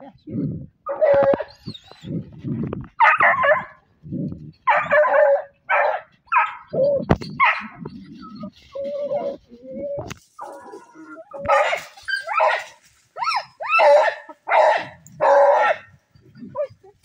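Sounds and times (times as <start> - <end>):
dogs barking and yelping: 0.8 - 17.0.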